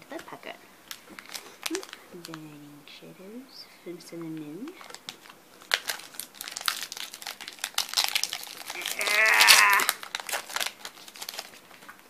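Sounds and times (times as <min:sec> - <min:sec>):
foil wrapper crinkling: 0:00.1 - 0:02.5, 0:04.5 - 0:12.0.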